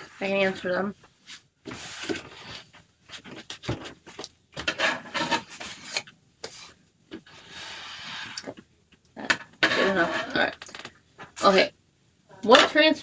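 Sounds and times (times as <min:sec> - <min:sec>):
rubbing and scraping: 0:00.0 - 0:08.7, 0:09.3 - 0:11.6.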